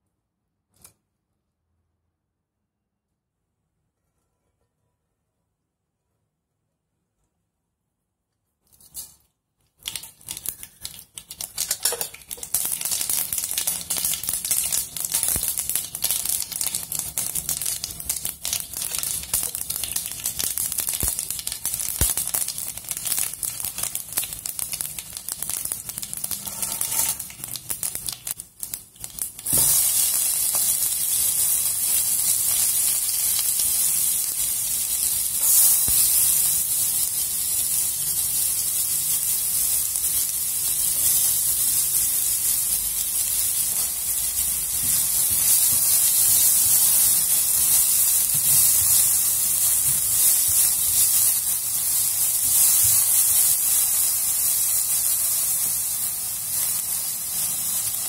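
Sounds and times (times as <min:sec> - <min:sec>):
spices crackling in hot oil: 0:08.6 - 0:58.0
vegetables sizzling in oil: 0:09.8 - 0:58.0.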